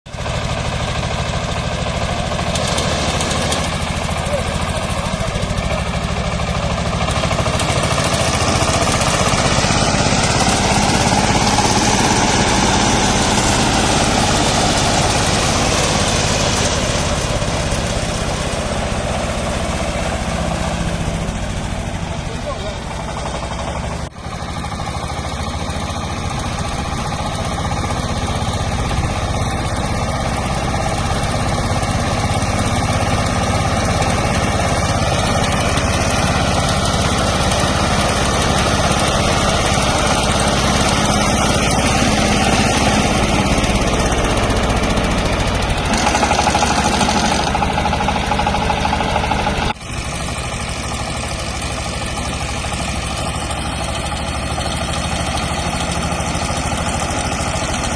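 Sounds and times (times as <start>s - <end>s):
tractor engine running under load: 0.1s - 57.9s.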